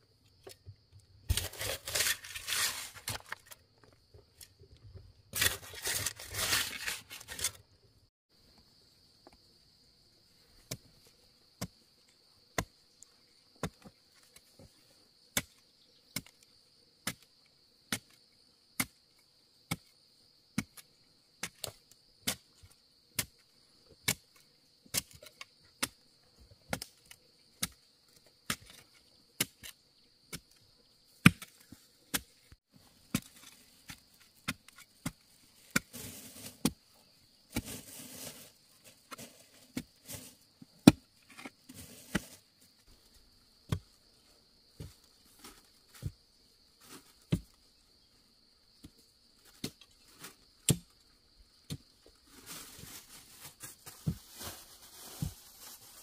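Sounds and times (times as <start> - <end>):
insects trilling: 8.4 - 56.0.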